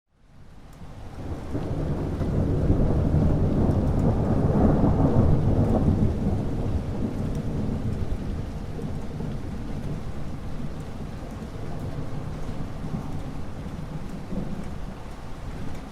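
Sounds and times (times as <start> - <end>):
rain hissing: 0.5 - 15.9
thunder rumbling: 0.9 - 15.9.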